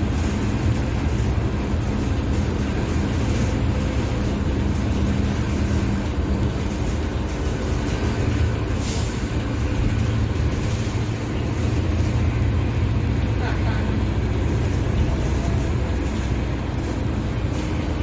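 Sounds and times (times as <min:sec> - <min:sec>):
bus diesel engine running: 0:00.0 - 0:18.0.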